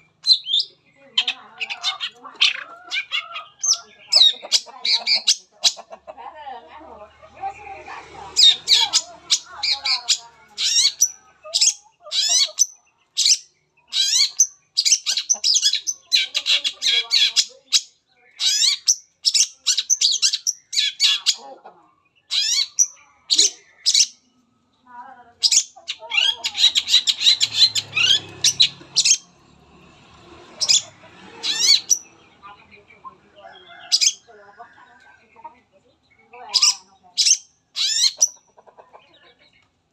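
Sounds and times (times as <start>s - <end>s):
bird singing harsh chattering: 0.0s - 6.0s, 7.4s - 24.3s, 25.4s - 29.5s, 30.3s - 34.4s, 36.0s - 39.3s.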